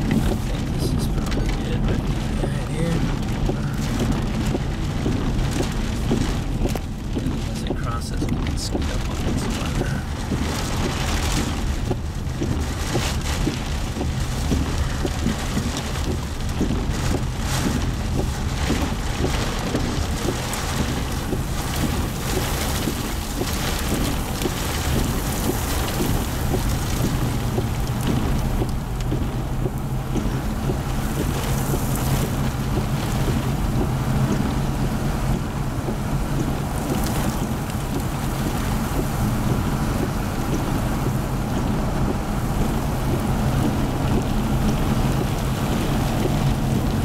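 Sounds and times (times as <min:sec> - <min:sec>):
vehicle low rumble: 0:00.0 - 0:47.0
wind and rain on vehicle: 0:00.0 - 0:47.0.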